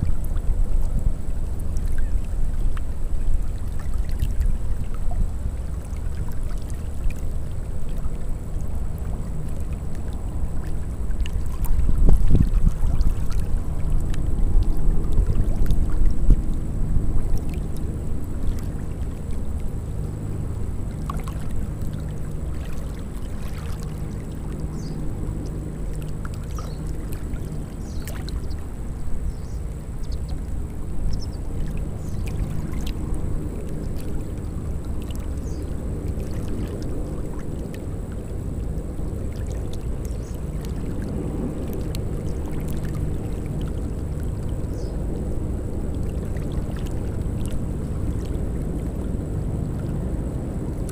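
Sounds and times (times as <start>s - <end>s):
small waves lapping at shore: 0.0s - 50.9s
wind rumble on microphone: 0.0s - 50.9s.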